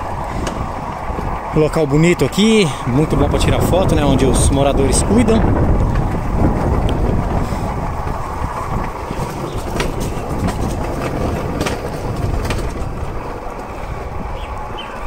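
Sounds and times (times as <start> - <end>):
steel wheels rumbling on rails: 0.0 - 15.0
wheels clicking over rail joints: 0.0 - 15.0.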